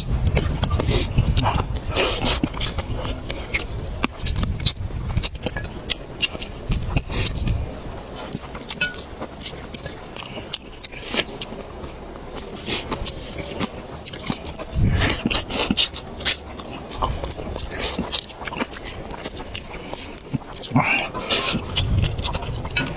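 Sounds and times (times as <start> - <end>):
food being chewed: 0.0 - 22.9.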